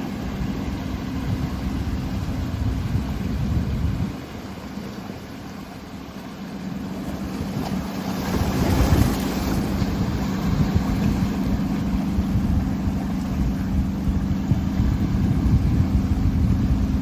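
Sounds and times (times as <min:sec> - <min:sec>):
wind on microphone: 0:00.0 - 0:05.8, 0:06.8 - 0:17.0
boat engine humming: 0:00.0 - 0:17.0
wash of noise: 0:00.0 - 0:17.0.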